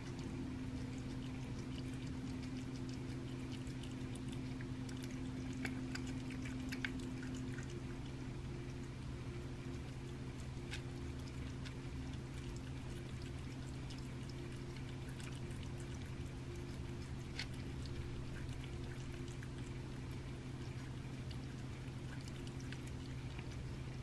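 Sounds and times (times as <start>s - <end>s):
cat chewing wetly: 0.0s - 24.0s
steady low hum: 0.0s - 24.0s.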